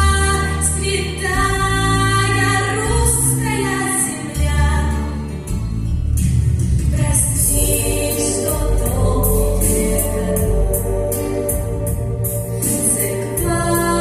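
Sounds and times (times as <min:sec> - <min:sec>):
vocal group singing: 0:00.0 - 0:05.3, 0:07.1 - 0:14.0
instrumental backing with bass line: 0:00.0 - 0:14.0.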